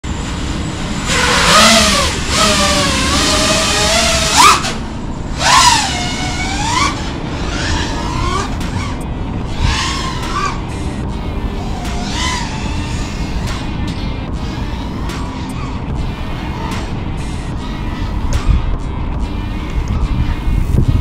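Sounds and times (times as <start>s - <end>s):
quadcopter motors whining: 0.1s - 18.6s.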